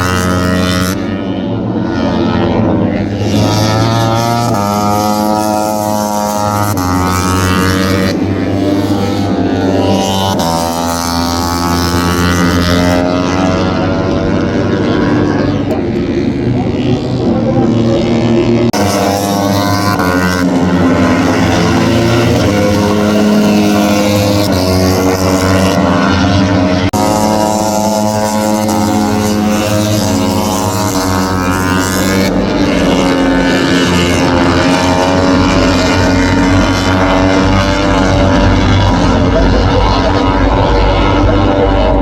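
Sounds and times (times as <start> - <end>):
racing motorcycles revving: 0.0 - 42.0.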